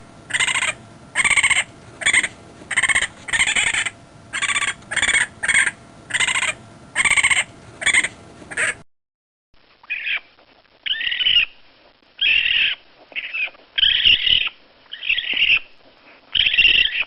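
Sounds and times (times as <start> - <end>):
raccoon screaming: 0.3 - 8.8, 9.9 - 11.6, 12.2 - 15.7, 16.3 - 17.0.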